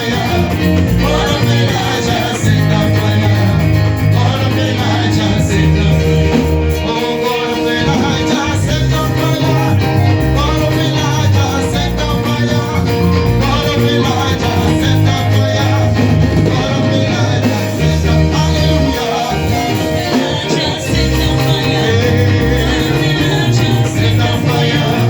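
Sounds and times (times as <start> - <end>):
bass line: 0.0 - 25.0
guitar: 0.0 - 25.0
person singing: 0.0 - 25.0.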